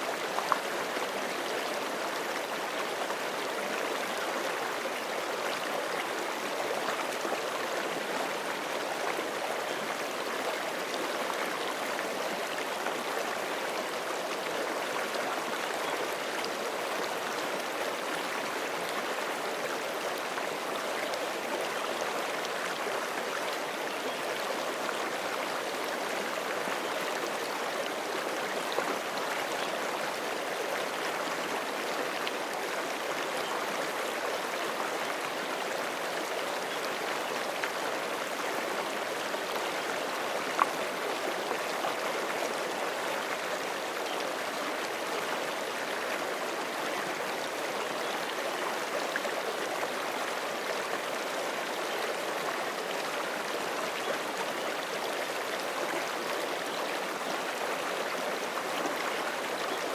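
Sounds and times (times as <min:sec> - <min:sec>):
creek running over rocks: 0:00.0 - 0:59.9.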